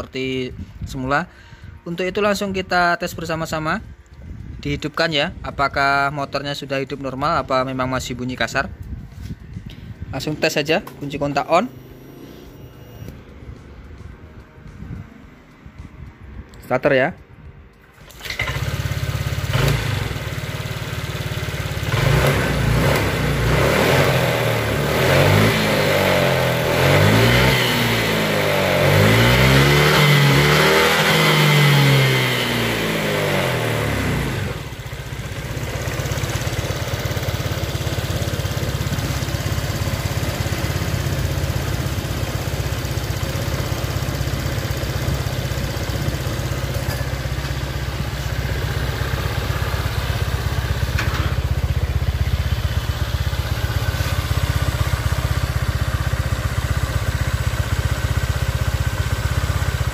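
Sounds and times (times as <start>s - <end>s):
scooter engine idling and revving: 5.6s - 16.5s, 17.8s - 59.9s.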